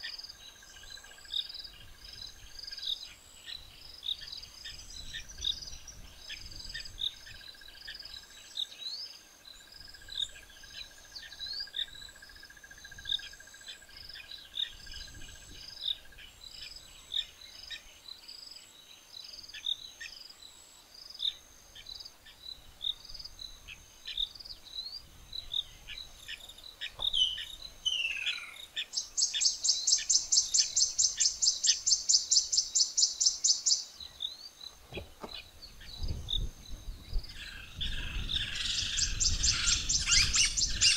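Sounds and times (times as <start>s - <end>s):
thin insect drone: 0.0s - 40.9s.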